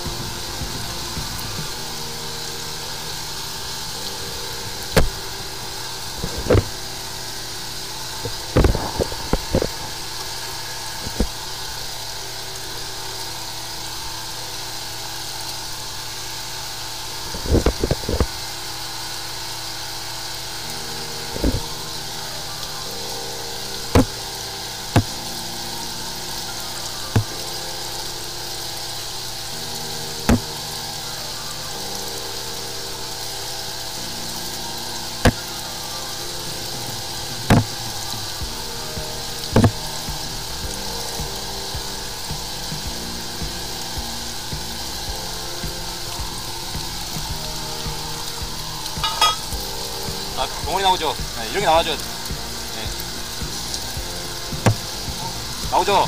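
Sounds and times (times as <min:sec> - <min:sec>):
sewer jetter pump running: 0:00.0 - 0:56.0.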